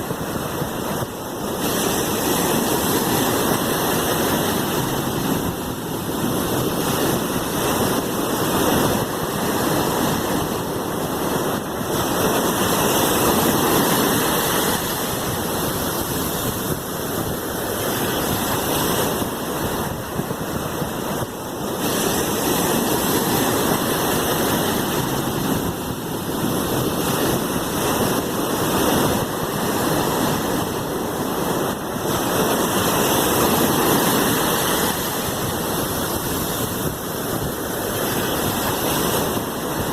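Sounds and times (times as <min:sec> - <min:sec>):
sea waves surf rushing: 0:00.0 - 0:39.9.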